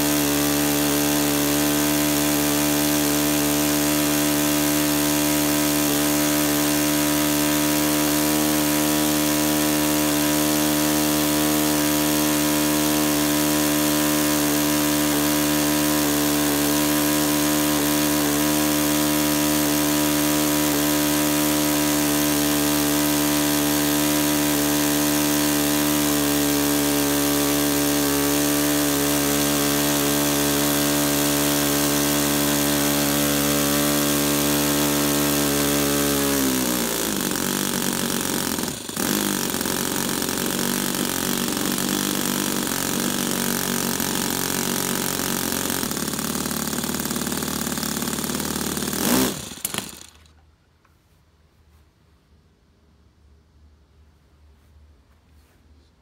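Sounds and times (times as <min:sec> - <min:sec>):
model engine and propeller: 0:00.0 - 0:50.3.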